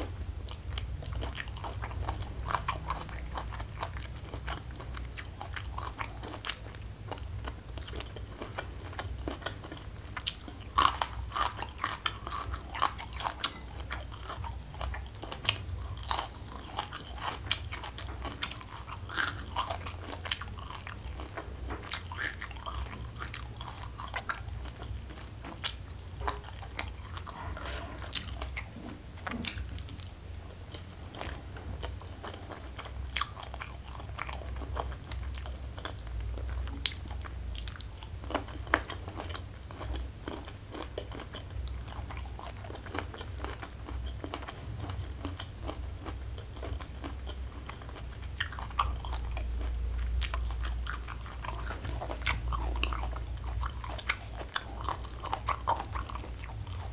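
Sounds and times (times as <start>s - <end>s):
chewing and crunching food: 0.0s - 56.9s
steady low hum: 0.0s - 56.9s.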